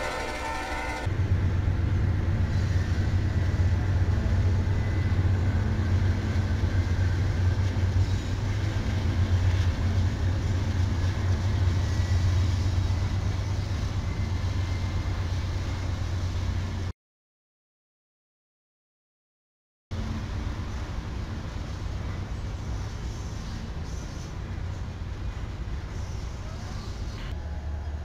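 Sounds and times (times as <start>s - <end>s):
diesel locomotive engine rumble: 0.0s - 16.9s, 19.9s - 28.0s
rail and wheel noise: 0.0s - 16.9s, 19.9s - 28.0s.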